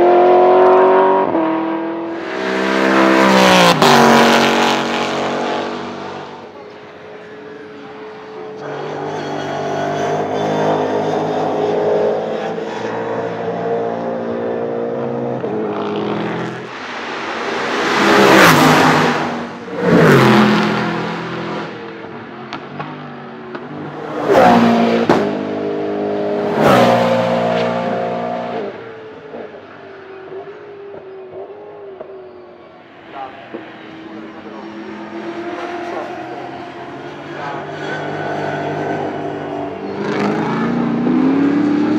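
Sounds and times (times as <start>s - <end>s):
race car engines revving: 0.0s - 41.9s
race cars passing by: 0.0s - 41.9s.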